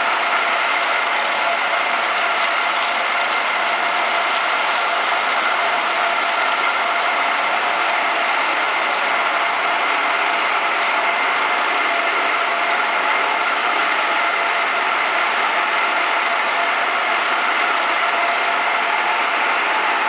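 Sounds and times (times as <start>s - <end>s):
loom machine din: 0.0s - 20.0s.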